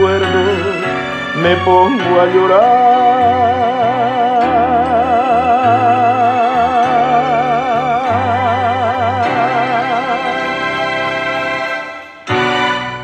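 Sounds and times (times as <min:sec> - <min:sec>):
ballad singing with vibrato: 0:00.0 - 0:12.0
bass notes: 0:00.0 - 0:13.0.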